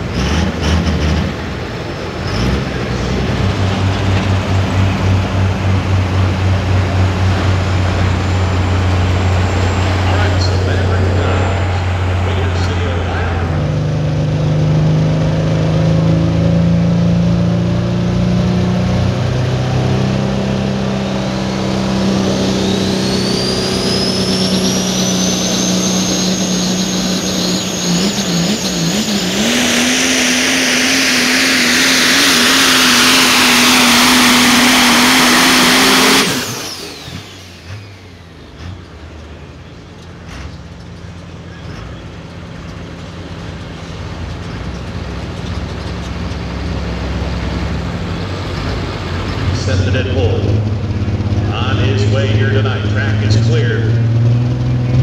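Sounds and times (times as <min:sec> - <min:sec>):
diesel truck engine under load: 0:00.0 - 0:55.0
turbocharger whine: 0:00.0 - 0:55.0.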